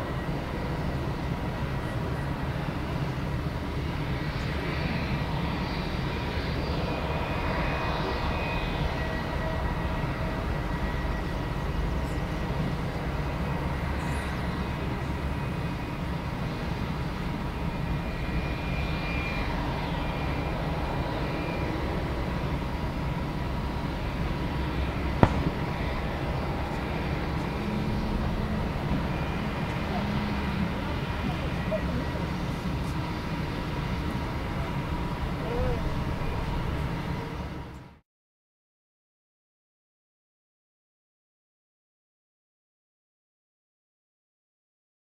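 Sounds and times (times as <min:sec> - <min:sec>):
jet engines rumbling and whining: 0:00.0 - 0:38.0.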